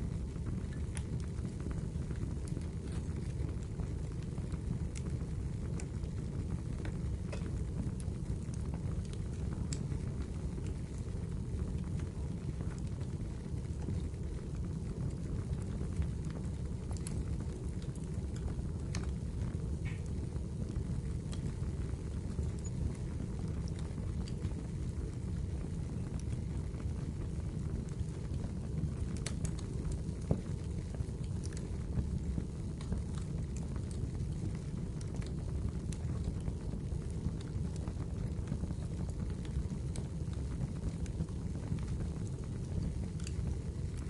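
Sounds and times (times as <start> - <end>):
wood fire crackling and popping: 0.0 - 44.0.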